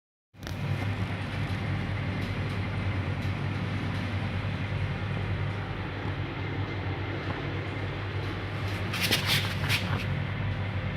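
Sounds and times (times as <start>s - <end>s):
refrigerator humming: 0.4s - 10.9s.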